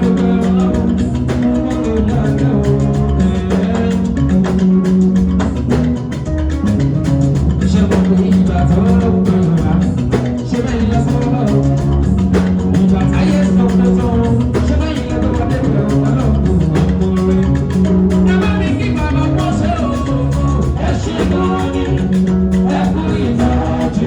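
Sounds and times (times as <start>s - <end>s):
person singing: 0.0s - 4.6s, 7.6s - 24.0s
drums: 0.0s - 24.0s
guitar: 0.0s - 24.0s.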